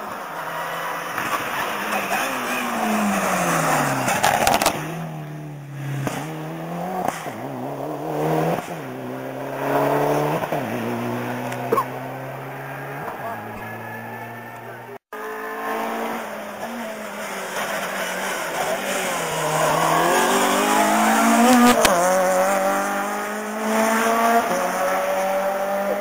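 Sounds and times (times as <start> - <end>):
rally car engine passing: 0.0 - 26.0.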